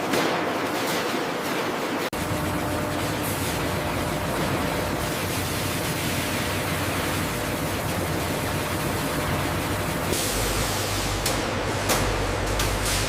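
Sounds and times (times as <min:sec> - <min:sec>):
machinery hiss and hum: 0:02.2 - 0:13.0.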